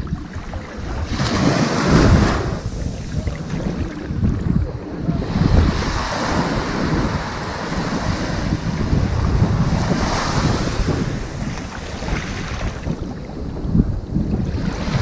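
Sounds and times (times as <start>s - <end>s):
ocean waves washing onto beach: 0.0s - 15.0s
wind rumble on microphone: 0.0s - 15.0s.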